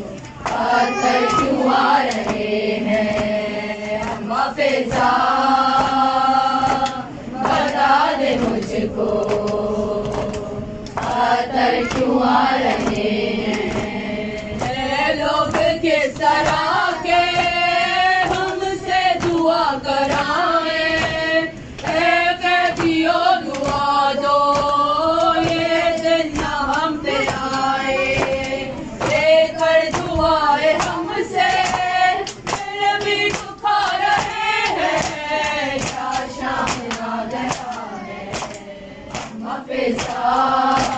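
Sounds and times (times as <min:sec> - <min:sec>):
women chanting a lament: 0:00.0 - 0:40.9.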